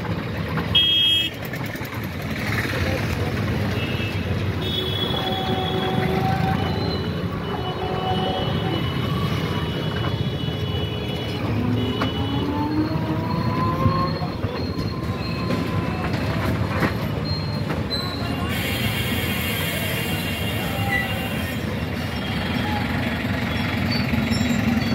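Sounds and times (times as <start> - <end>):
street traffic rumble: 0.0 - 24.9.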